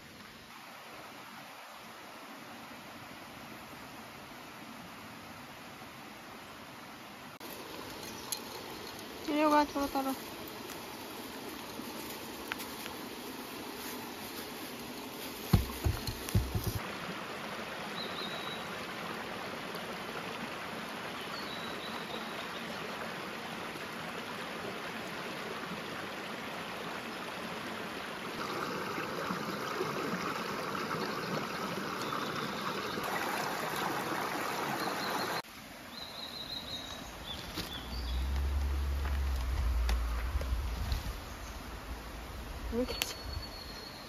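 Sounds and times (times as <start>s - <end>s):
quiet outdoor ambience: 0.0s - 44.0s
stream running over rocks: 0.0s - 44.0s.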